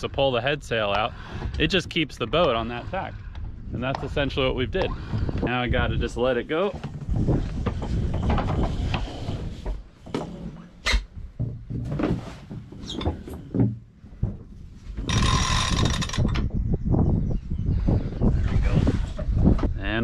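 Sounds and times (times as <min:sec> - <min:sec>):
wind rumble on microphone: 0:00.0 - 0:10.2, 0:11.1 - 0:20.0.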